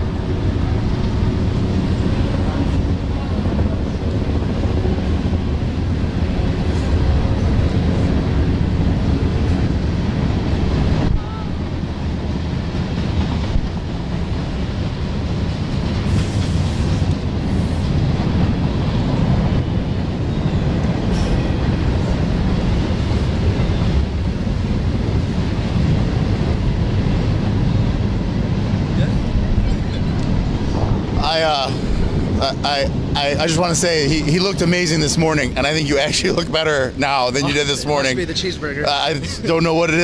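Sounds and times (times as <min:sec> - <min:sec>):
freight train rumbling past: 0:00.0 - 0:40.0.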